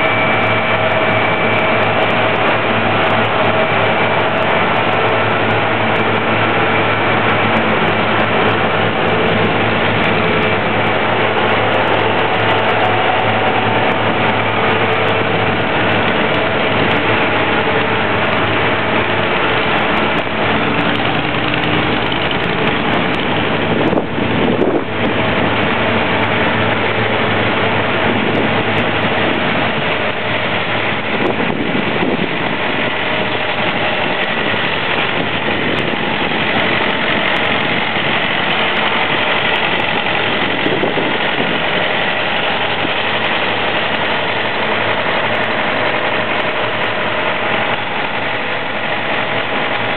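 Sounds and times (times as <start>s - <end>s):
paving machine engine droning: 0.0s - 49.9s.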